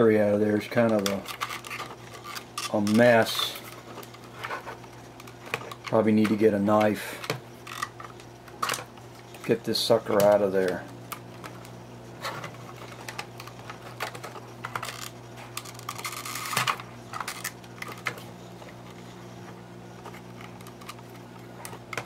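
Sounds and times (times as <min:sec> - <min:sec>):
steady low hum: 0:00.0 - 0:22.0
plastic clicks and scrapes: 0:00.8 - 0:09.5, 0:10.1 - 0:22.0.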